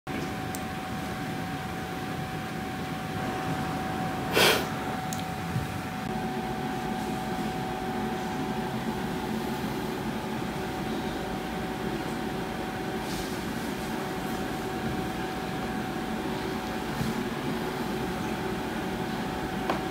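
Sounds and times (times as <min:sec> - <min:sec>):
faint constant whine: 0:00.1 - 0:19.9
mechanical room hum: 0:00.1 - 0:19.9.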